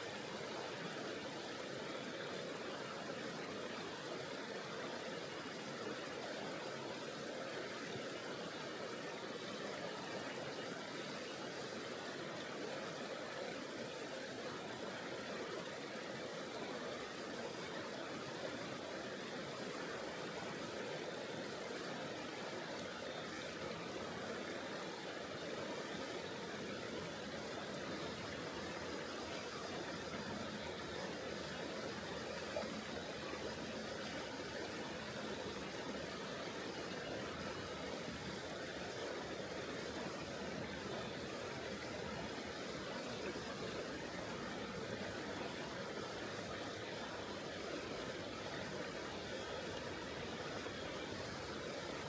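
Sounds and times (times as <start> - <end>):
river water flowing over rocks: 0.0 - 52.0.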